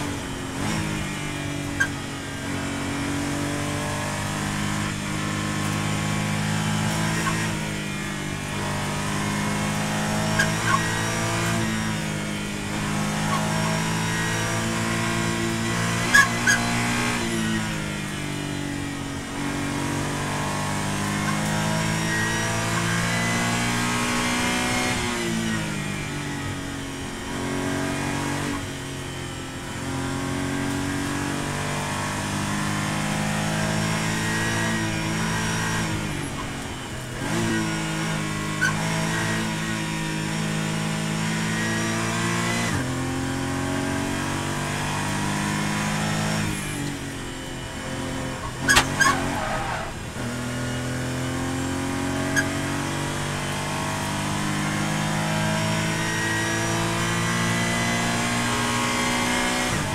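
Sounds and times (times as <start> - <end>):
race car engine revving: 0.0 - 28.9, 29.6 - 59.9.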